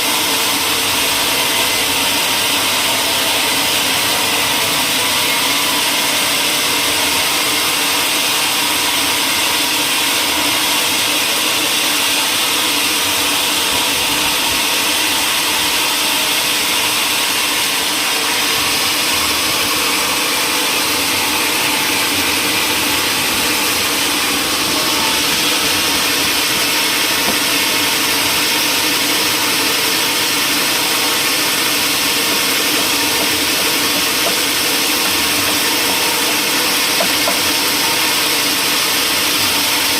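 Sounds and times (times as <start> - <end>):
woodworking machinery hissing: 0.0 - 39.9.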